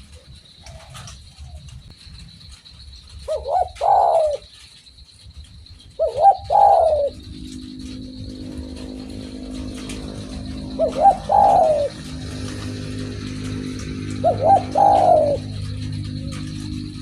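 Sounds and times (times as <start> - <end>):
dove cooing: 0.0 - 1.8, 2.5 - 17.0.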